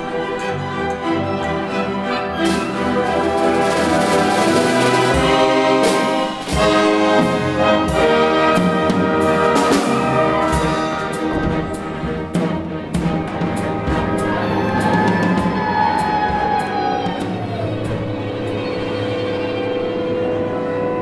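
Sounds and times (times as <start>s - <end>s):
brass-heavy orchestral music: 0.0s - 21.0s.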